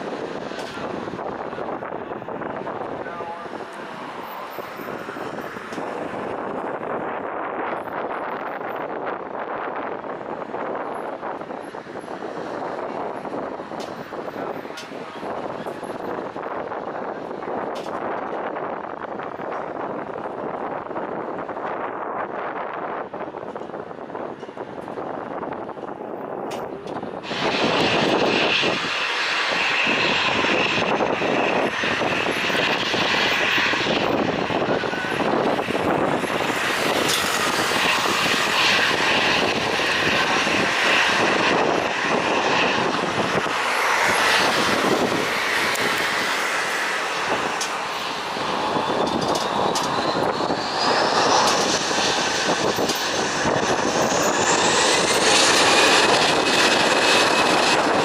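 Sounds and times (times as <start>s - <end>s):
jet engine whine: 0.0s - 58.0s
jet engines rushing: 0.0s - 58.0s.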